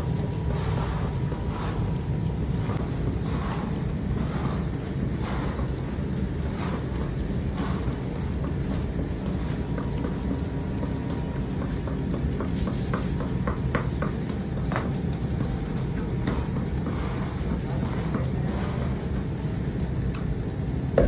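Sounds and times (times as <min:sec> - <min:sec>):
syrup boiling: 0:00.0 - 0:21.0.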